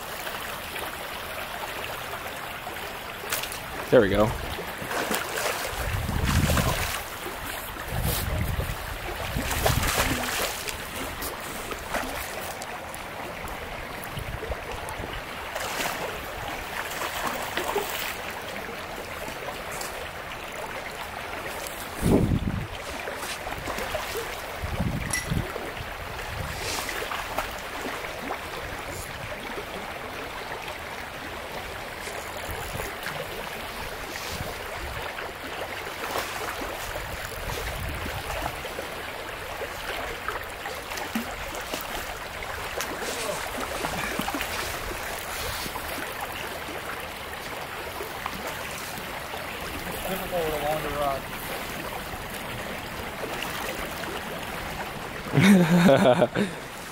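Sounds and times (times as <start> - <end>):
creek water flowing: 0.0 - 56.9.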